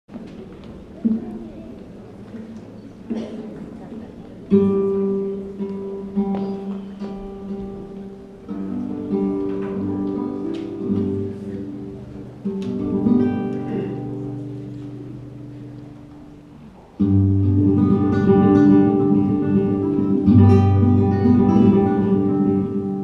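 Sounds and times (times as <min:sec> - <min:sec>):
acoustic guitars strumming chords: 0:04.5 - 0:23.0.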